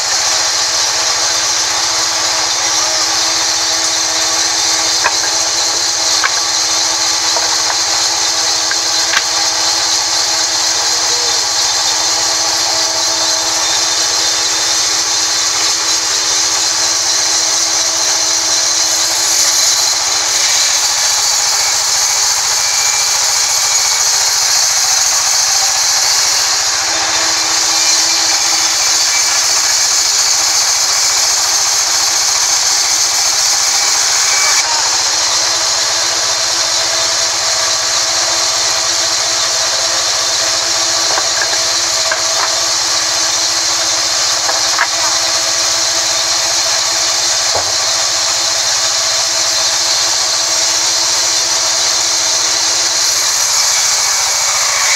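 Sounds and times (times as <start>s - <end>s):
band saw cutting log: 0.0s - 54.9s.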